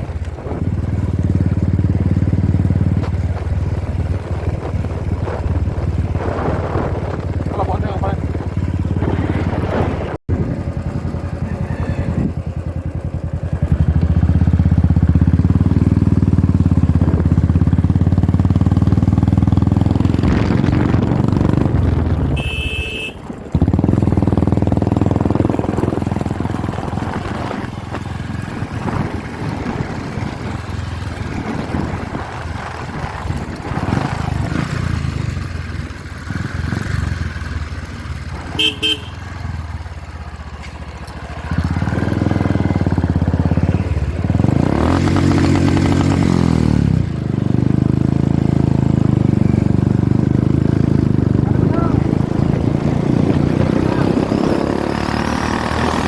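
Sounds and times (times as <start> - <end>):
motorcycle engine exhaust: 0.0 - 56.0.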